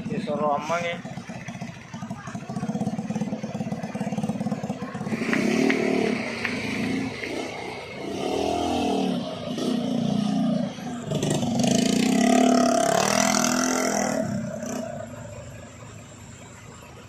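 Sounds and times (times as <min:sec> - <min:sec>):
heavy truck engines climbing: 0:00.0 - 0:17.0.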